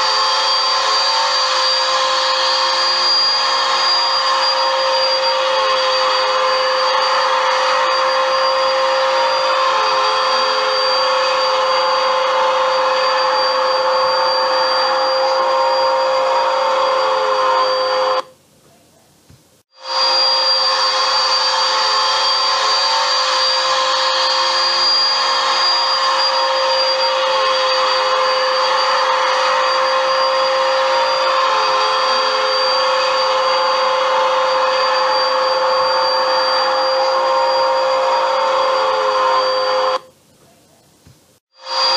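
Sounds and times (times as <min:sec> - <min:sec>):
vacuum cleaner running on carpet: 0:00.0 - 0:18.3, 0:19.7 - 0:40.1, 0:41.5 - 0:41.9.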